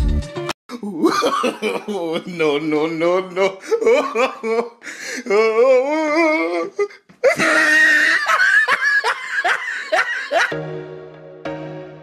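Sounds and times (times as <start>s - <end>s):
person laughing hard: 0.7s - 10.6s.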